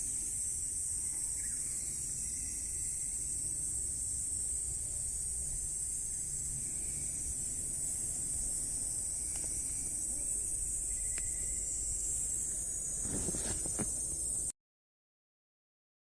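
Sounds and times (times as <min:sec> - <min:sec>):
insects droning in chorus: 0:00.0 - 0:14.5.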